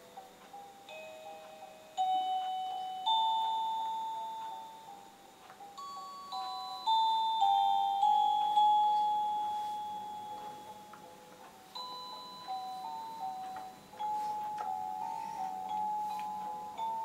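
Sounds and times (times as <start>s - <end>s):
crib mobile chime lullaby: 0.0s - 17.0s.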